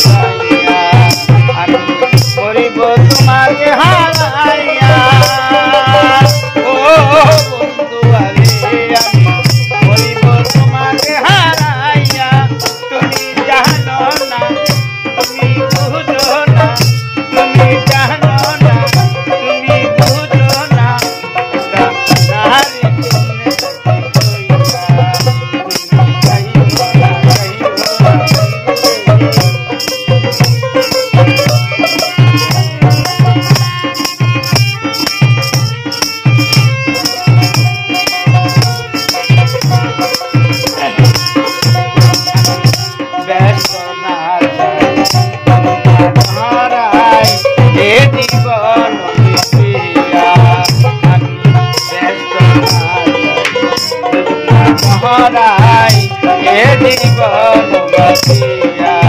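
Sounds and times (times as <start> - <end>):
hand drum beat: 0.0 - 59.0
person singing folk song: 0.0 - 59.0
rattling percussion: 0.0 - 59.0.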